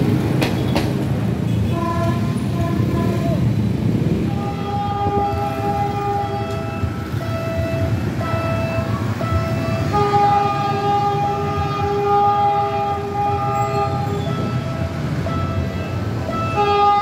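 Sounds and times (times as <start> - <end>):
low rumble of traffic: 0.0 - 17.0
locomotive horn blasts: 1.5 - 3.5, 4.2 - 17.0.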